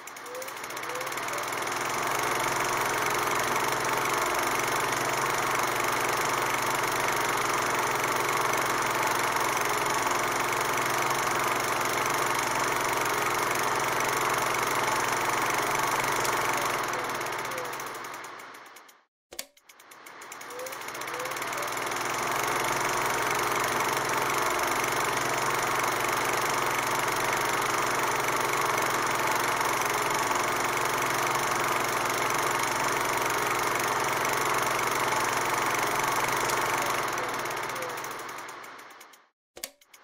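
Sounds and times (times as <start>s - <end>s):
mechanical running and rattling: 0.0s - 40.0s.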